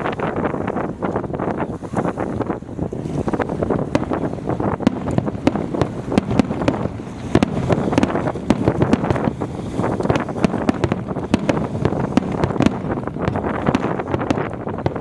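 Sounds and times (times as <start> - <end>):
wind buffeting microphone: 0.0 - 15.0
fireworks bursting: 2.4 - 15.0.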